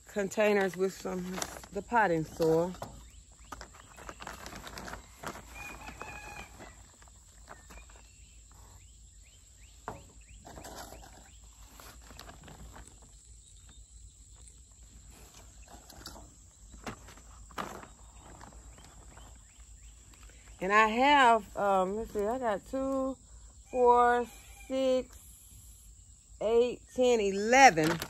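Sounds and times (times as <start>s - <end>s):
potting mix rustling and scraping: 0.0s - 23.1s.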